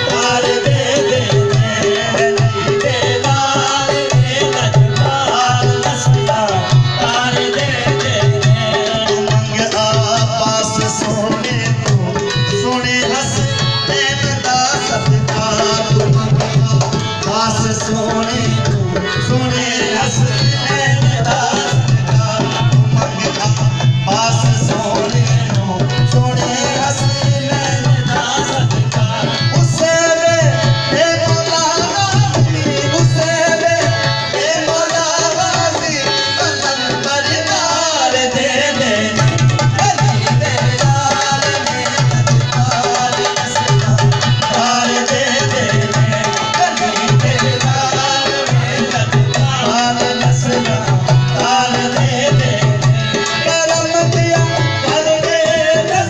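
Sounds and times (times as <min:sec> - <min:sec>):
hand drums beating: 0:00.0 - 0:56.0
voices singing: 0:00.0 - 0:56.0.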